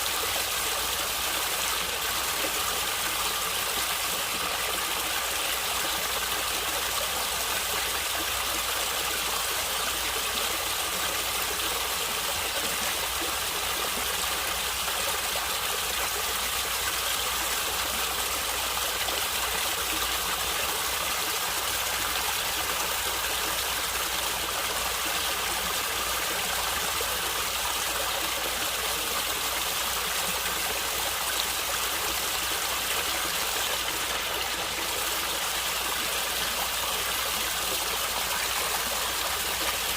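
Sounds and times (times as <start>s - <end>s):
stream flowing and gurgling: 0.0s - 39.9s.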